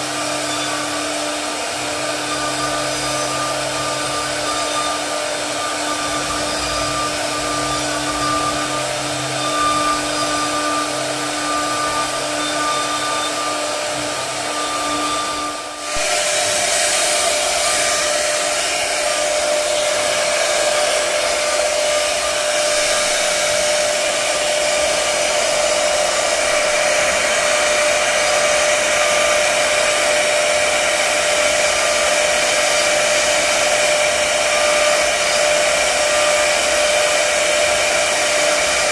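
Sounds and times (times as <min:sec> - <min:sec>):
router spindle whine: 0:00.0 - 0:38.9
cutting hiss: 0:00.2 - 0:37.6.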